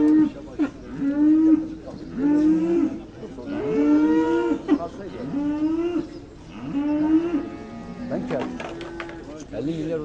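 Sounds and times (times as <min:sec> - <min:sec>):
cattle mooing: 0:00.0 - 0:09.3.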